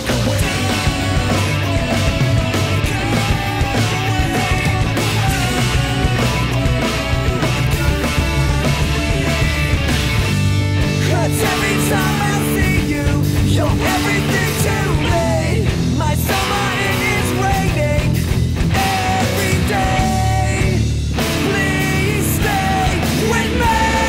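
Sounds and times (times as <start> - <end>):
rock music: 0.0 - 24.0.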